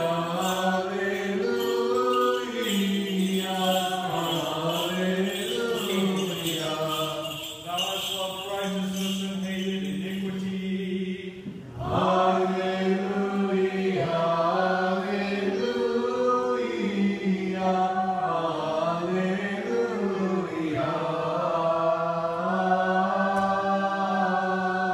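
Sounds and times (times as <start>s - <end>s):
voices singing a chant: 0.0s - 24.9s.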